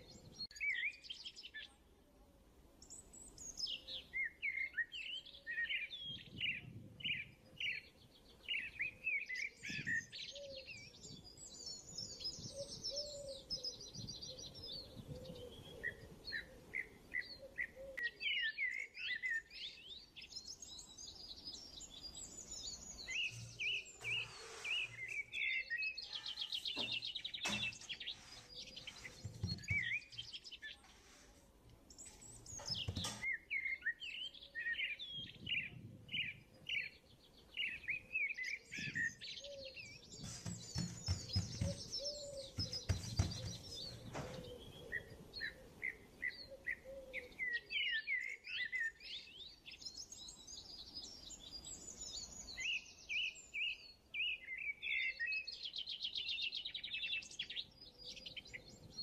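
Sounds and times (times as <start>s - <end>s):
small birds chirping: 0.0s - 2.0s, 2.7s - 59.0s.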